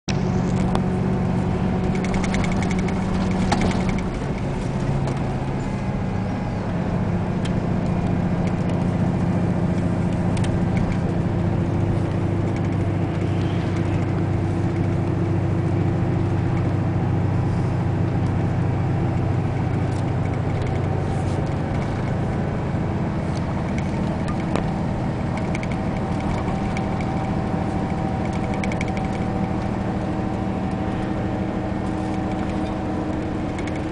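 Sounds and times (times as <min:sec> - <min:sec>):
bus engine droning: 0:00.1 - 0:33.9.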